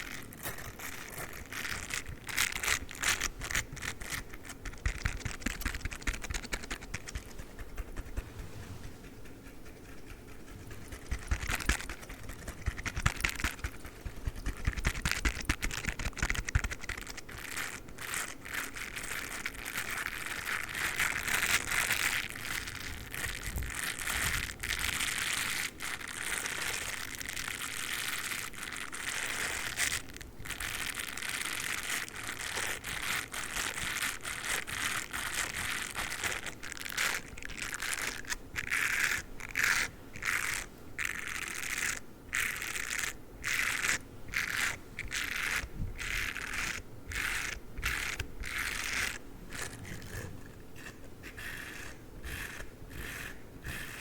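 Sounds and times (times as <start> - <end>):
toothbrush bristles scratching microphone: 0.0 - 54.0.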